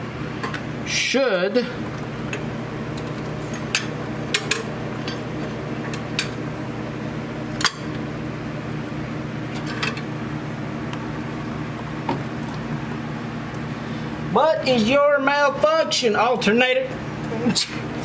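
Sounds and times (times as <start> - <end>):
electric fan hum: 0.0 - 18.0.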